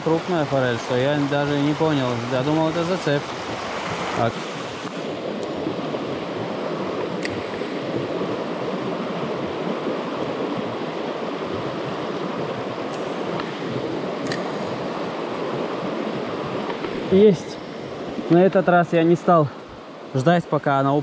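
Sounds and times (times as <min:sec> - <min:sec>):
river rushing over rocks: 0:00.0 - 0:19.4.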